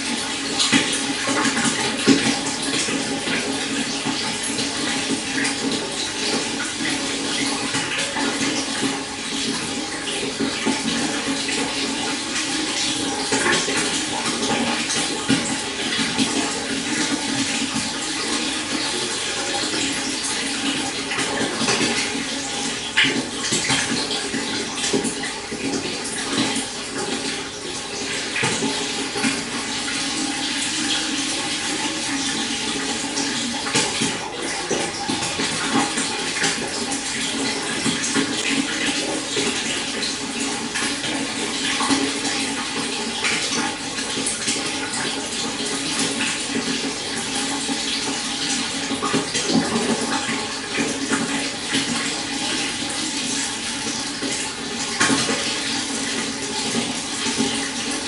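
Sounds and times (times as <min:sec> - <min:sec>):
small water splashes: 0:00.0 - 0:58.0
stream water flowing: 0:00.0 - 0:58.0.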